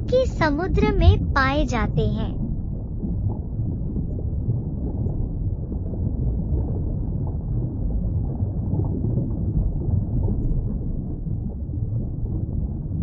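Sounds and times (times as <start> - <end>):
low muffled rumble: 0.0 - 13.0.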